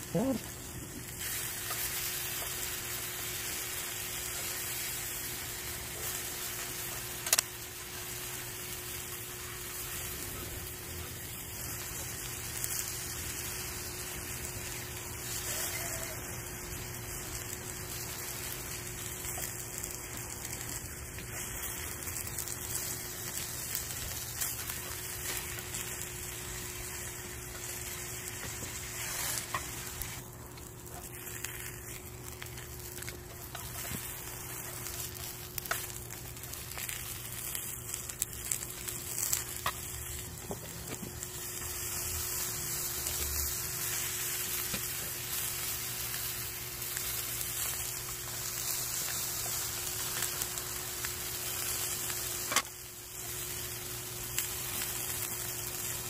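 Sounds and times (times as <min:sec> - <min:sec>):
meat sizzling in a frying pan: 0:00.0 - 0:56.0.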